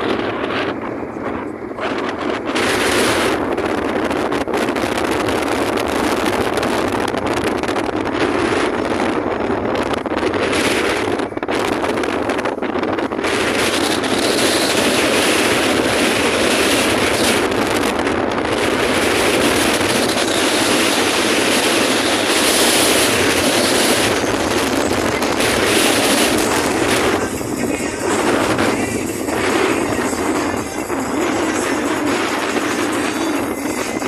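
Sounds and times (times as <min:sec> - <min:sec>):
tyres on road: 0:00.0 - 0:34.0
wind rushing: 0:00.0 - 0:34.0.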